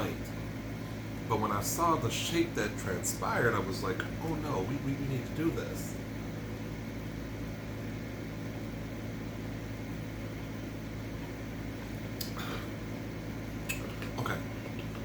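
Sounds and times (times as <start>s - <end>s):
air conditioning fan humming: 0.0s - 15.0s.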